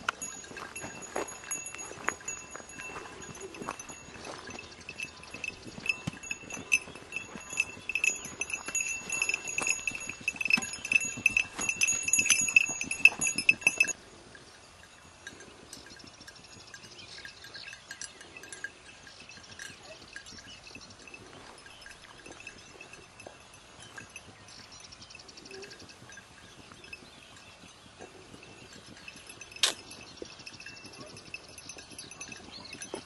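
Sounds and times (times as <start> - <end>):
dog collar bell jingling: 0.0 - 33.0.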